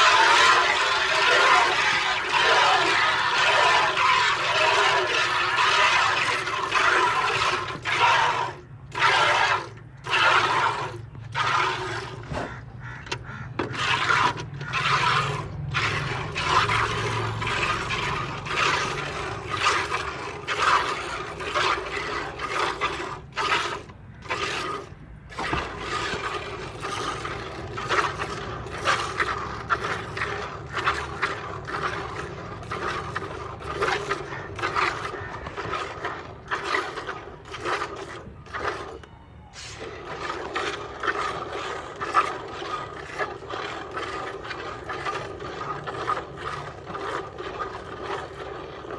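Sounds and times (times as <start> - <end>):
milk squirting into a pail: 0.0 - 12.6, 13.2 - 48.9.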